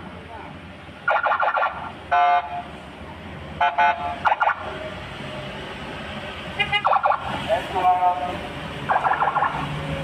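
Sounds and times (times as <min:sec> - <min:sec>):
rumble of passing traffic: 0:00.0 - 0:10.0.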